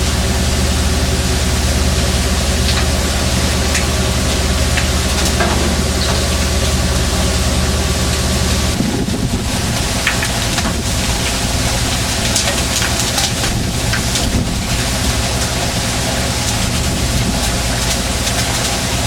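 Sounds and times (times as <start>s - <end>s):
boat engine running: 0.0s - 19.0s
wind and water noise: 0.0s - 19.0s.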